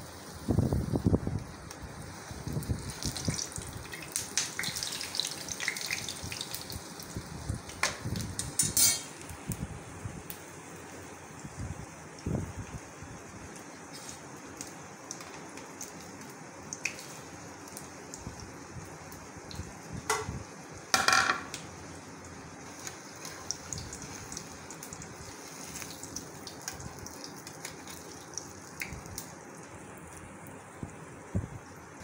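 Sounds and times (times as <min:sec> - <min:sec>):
flatbread frying in oil: 0:00.0 - 0:32.0.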